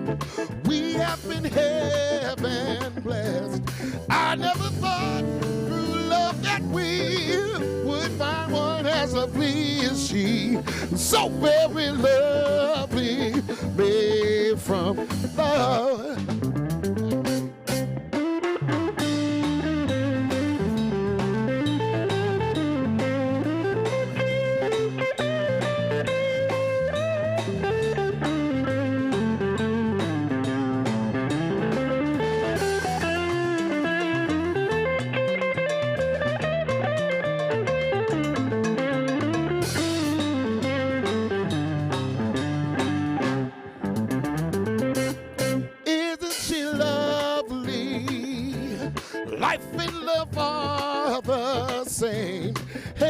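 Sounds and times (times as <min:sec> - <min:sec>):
electric guitar lead: 0:00.0 - 0:53.0
funk band playing: 0:00.0 - 0:53.0.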